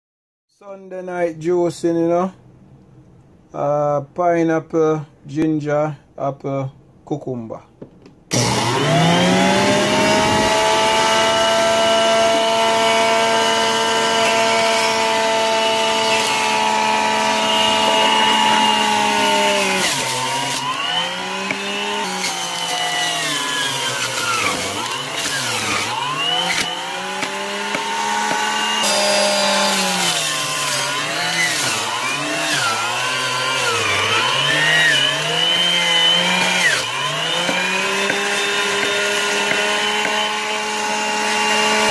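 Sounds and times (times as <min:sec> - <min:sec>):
electric juicer motor whining: 0:08.3 - 0:41.9.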